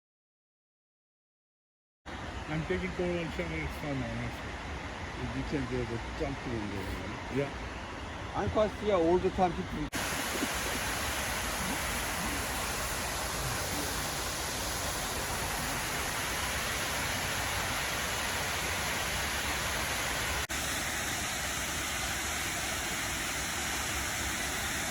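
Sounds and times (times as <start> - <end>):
waterfall rushing: 2.1 - 24.9.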